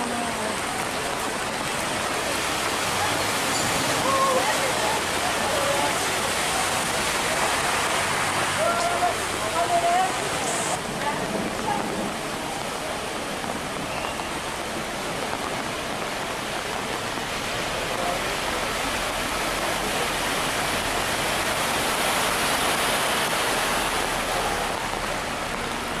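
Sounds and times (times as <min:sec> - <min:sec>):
heavy rain: 0:00.0 - 0:26.0
rushing floodwater: 0:00.0 - 0:26.0.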